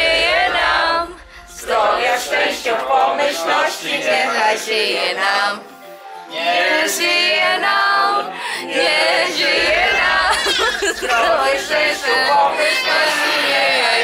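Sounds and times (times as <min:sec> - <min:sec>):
group singing birthday song: 0:00.0 - 0:14.0.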